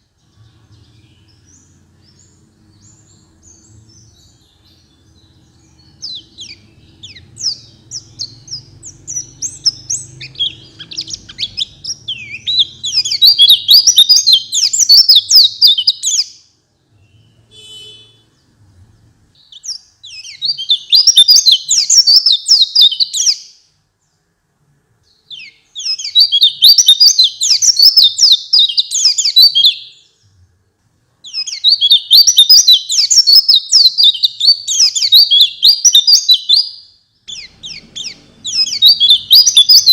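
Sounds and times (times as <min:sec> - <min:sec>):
bird twittering song: 0:00.0 - 0:24.4, 0:25.0 - 0:30.6, 0:31.2 - 0:39.9
soft bird chirps: 0:00.0 - 0:39.9.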